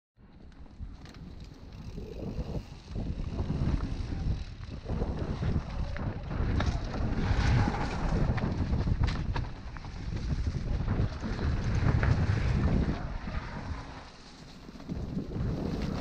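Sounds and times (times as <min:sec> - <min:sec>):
bike clicking and rattling: 0:00.2 - 0:16.0
wind buffeting microphone: 0:00.7 - 0:16.0
tyres rumbling over dirt: 0:01.0 - 0:16.0.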